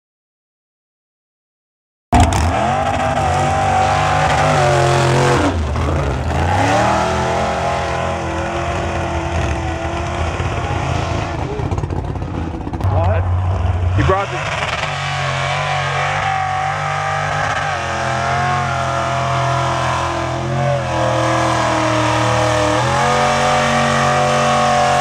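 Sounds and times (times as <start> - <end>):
truck churning through mud: 2.2 - 12.6, 13.4 - 25.0
truck engine revving: 2.2 - 25.0.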